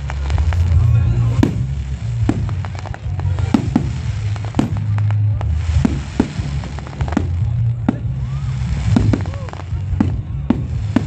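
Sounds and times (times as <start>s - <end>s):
bass background music: 0.0s - 11.0s
fireworks bangs: 0.0s - 11.0s.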